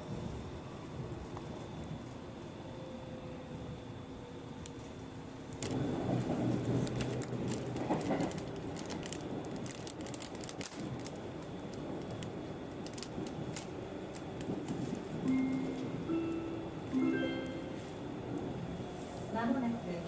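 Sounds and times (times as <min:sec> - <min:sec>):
train wheels and motors rumbling: 0:00.0 - 0:20.0.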